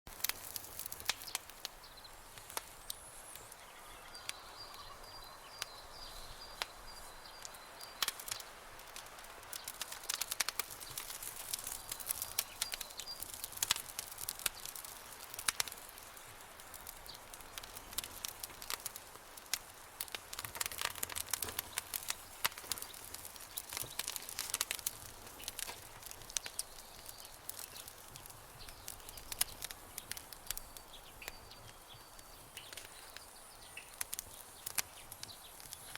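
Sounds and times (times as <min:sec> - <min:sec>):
campfire crackling and popping: 0:00.1 - 0:35.9
soft fire hiss: 0:00.1 - 0:35.9.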